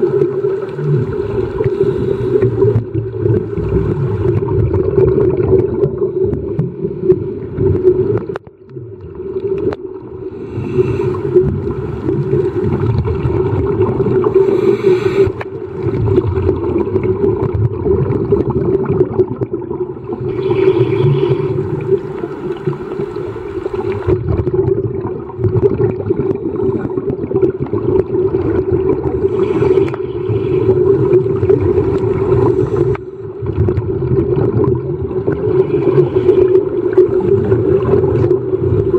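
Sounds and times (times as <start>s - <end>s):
low underwater hum: 0.0s - 38.9s
regulator bubbling: 0.0s - 38.9s.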